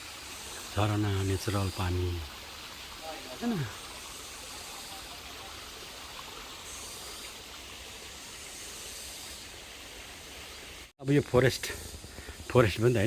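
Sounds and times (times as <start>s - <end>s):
water pouring down waterfall: 0.0s - 10.9s.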